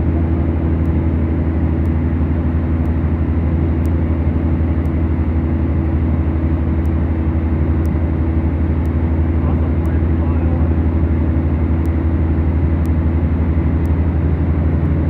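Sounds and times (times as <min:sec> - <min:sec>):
aircraft engines droning in cabin: 0:00.0 - 0:15.0.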